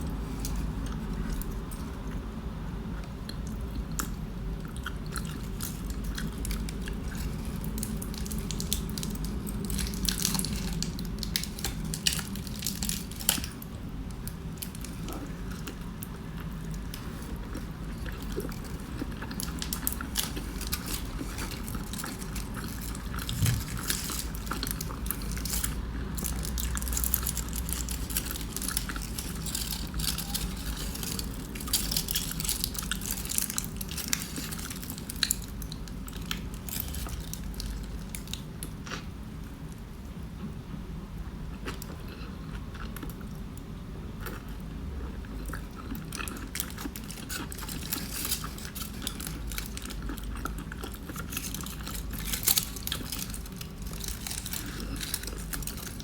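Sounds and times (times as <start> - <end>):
person chewing food: 3.0 - 39.2, 41.5 - 43.6, 44.2 - 56.0.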